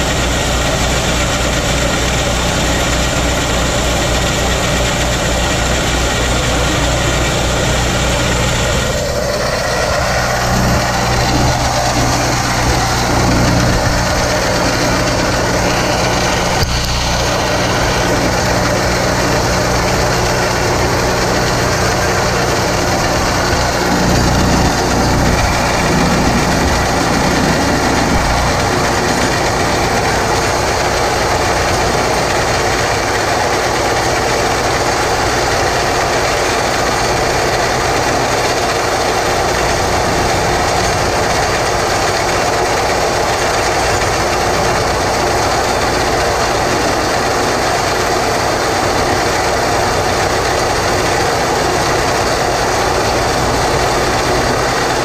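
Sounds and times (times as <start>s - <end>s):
boring rig running: 0.0s - 55.0s
reamer grinding through concrete: 0.0s - 55.0s.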